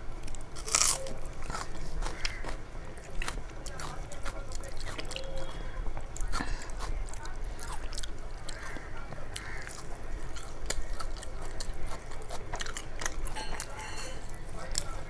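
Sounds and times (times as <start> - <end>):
wet chewing: 0.2 - 15.0.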